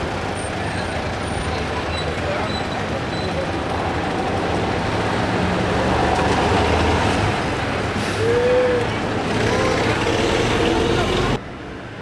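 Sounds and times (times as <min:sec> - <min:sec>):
bus engine passing by: 0:00.0 - 0:12.0.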